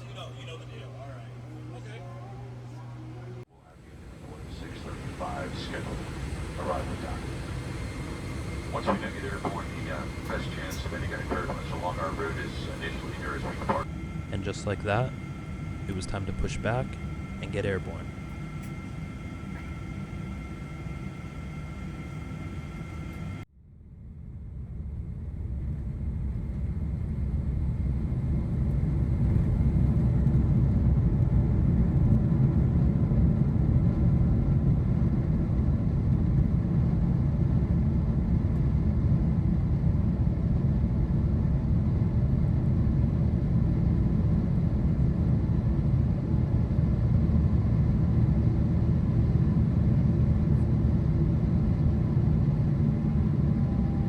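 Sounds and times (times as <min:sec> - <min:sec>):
jet engines rumbling in cabin: 0:00.0 - 0:23.5, 0:24.2 - 0:54.0.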